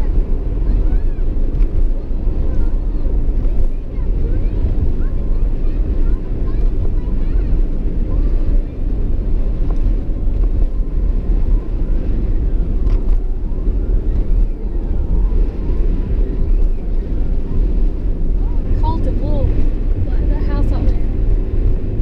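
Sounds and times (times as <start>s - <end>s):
truck road rumble and engine: 0.0s - 22.0s.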